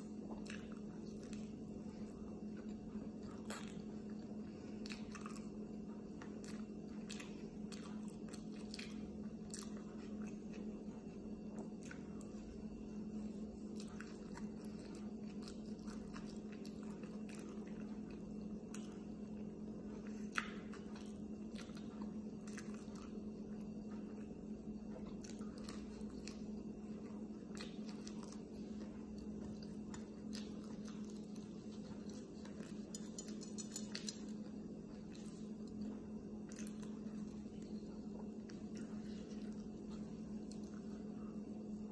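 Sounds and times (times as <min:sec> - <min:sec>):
chewing and biting bread: 0:00.0 - 0:41.9
steady low hum: 0:00.0 - 0:41.9.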